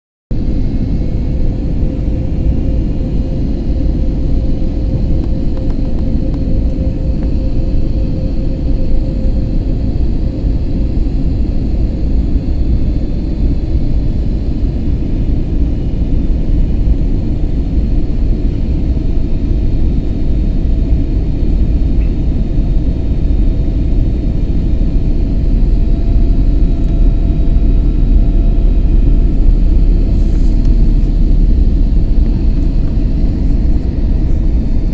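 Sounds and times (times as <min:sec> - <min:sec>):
airplane engine and airflow rumble: 0:00.3 - 0:34.9
faint steady tones: 0:00.4 - 0:34.9.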